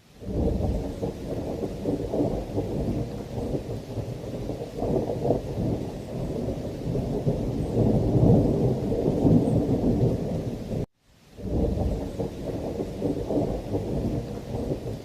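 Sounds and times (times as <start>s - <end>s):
heavy rain: 0.0s - 15.0s
rolling thunder: 0.2s - 15.0s.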